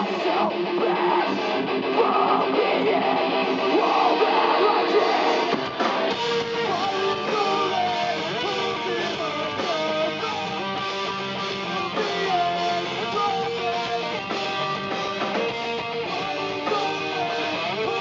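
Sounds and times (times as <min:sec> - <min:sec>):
guitar melody with bending notes: 0:00.0 - 0:18.0
live rock band playing: 0:00.0 - 0:18.0
strummed electric guitars: 0:00.0 - 0:18.0.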